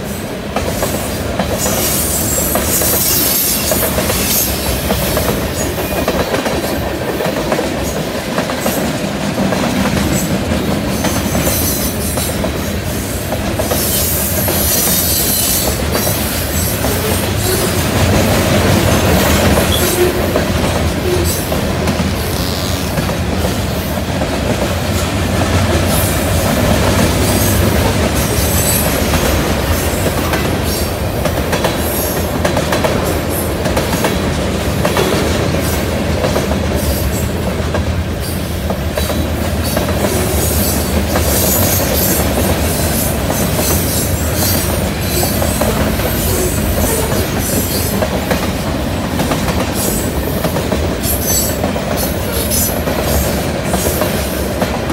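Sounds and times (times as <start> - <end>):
freight train rolling past: 0.0 - 54.9
train wheels clicking and clattering: 0.0 - 54.9.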